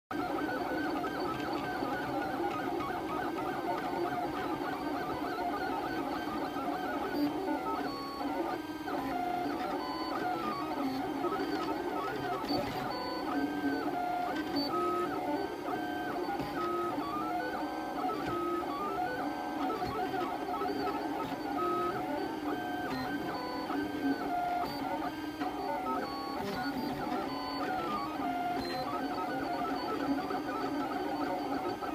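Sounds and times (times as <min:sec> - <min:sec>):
printer stepper motors whining: 0:00.1 - 0:31.9.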